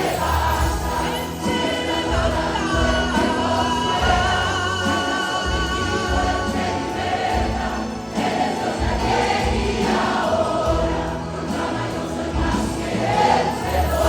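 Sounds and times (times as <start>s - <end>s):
choir singing a worship song: 0.0s - 14.0s.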